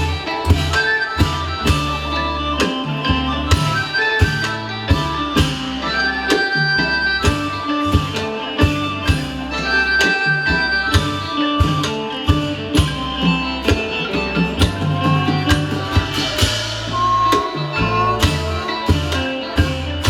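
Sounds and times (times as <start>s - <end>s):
folk ensemble melodic lines: 0.0s - 20.0s
steady drumbeat: 0.0s - 20.0s.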